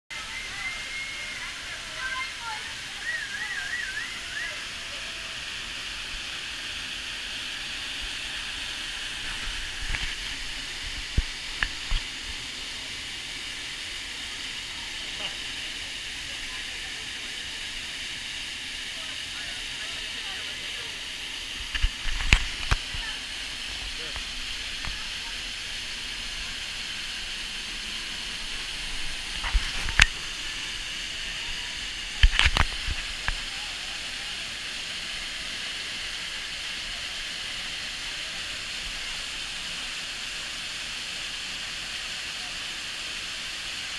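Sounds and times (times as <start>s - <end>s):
waterfall pouring into pool: 0.1s - 43.9s.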